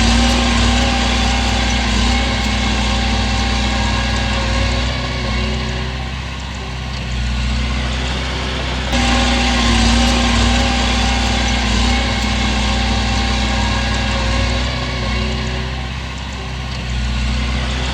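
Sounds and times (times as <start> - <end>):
heavy diesel engine running: 0.0 - 17.9.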